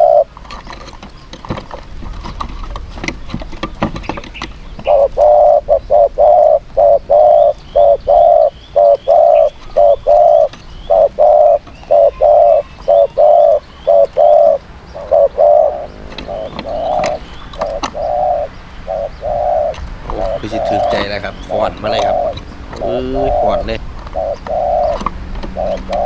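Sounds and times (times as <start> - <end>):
dove cooing: 0.0 - 26.0
small birds chirping: 0.0 - 26.0.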